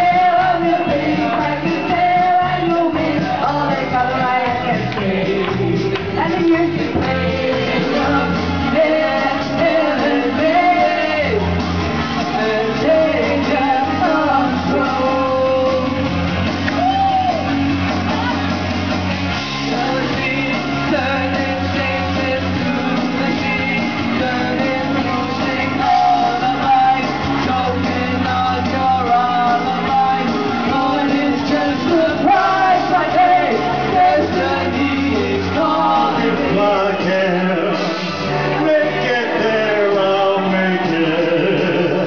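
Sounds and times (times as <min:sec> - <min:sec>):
person singing into microphone: 0:00.0 - 0:11.6, 0:12.2 - 0:16.2, 0:19.6 - 0:42.0
amplified backing track: 0:00.0 - 0:42.0.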